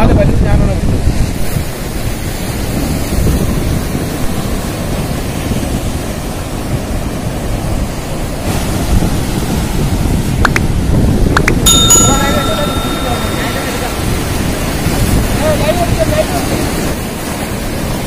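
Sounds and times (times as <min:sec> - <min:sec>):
wind buffeting microphone: 0:00.0 - 0:18.0
sea waves washing against rocks: 0:00.3 - 0:18.0.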